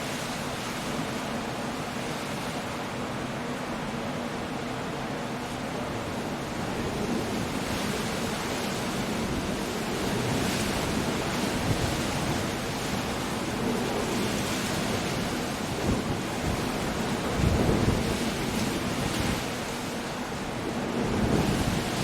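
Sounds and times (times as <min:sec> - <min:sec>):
stormy sea surf: 0:00.0 - 0:22.0
wind: 0:00.0 - 0:22.0.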